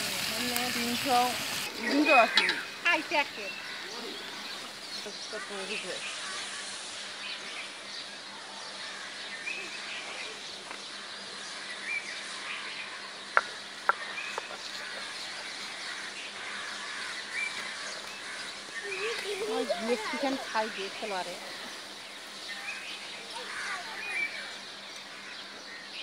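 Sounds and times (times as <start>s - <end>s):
birds chirping: 0.0s - 26.0s
insects: 0.0s - 26.0s.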